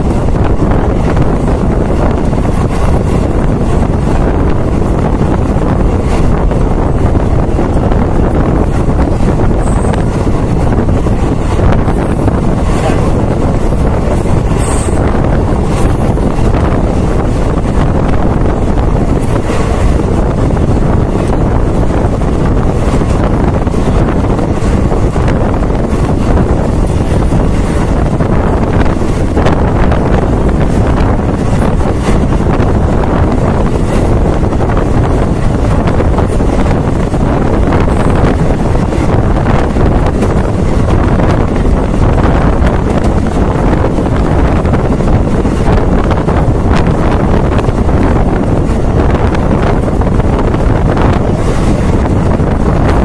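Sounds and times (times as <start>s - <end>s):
train running rumble: 0.0s - 53.0s
wind rushing over microphone: 0.0s - 53.0s.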